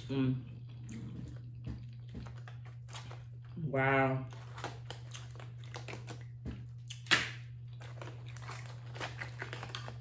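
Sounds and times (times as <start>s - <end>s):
steady low hum: 0.0s - 10.0s
chewing and mouth smacks: 0.4s - 3.6s, 4.3s - 10.0s.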